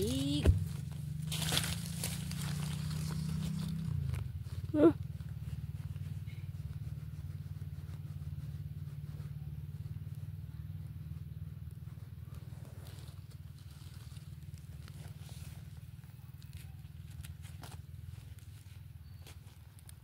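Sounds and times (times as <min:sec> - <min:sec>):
dirt rustling: 0:00.0 - 0:10.2, 0:11.0 - 0:20.0
hand scraping soil: 0:00.0 - 0:10.4, 0:11.1 - 0:20.0
pulsing low hum: 0:00.0 - 0:16.2.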